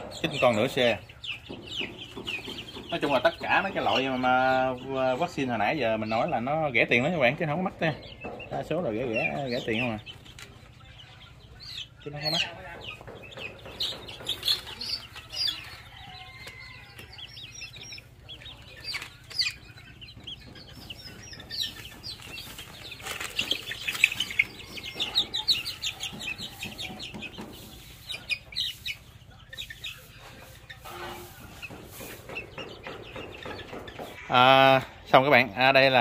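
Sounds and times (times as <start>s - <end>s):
chicks peeping: 0.0s - 36.0s.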